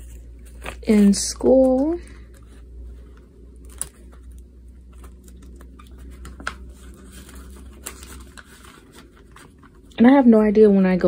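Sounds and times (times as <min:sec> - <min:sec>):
paper banknotes rustling: 0:00.0 - 0:10.2.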